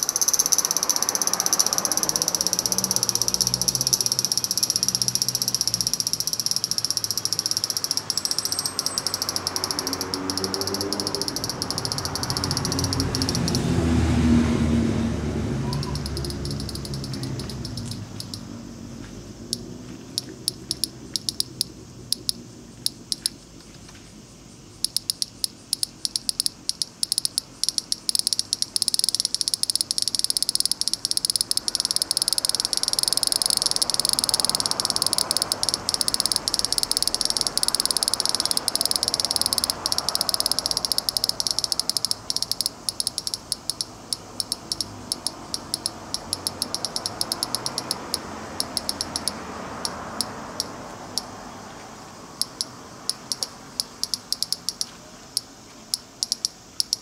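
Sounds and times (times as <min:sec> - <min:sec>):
cicada buzzing and clicking: 0:00.0 - 0:57.0.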